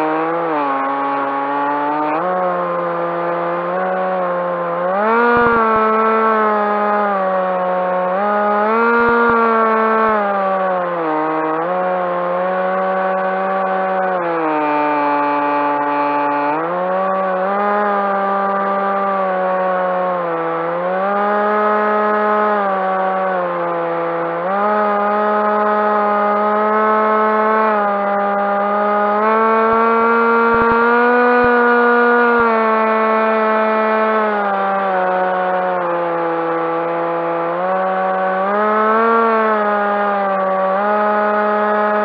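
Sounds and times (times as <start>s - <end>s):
model plane electric motor whine: 0.0s - 42.0s.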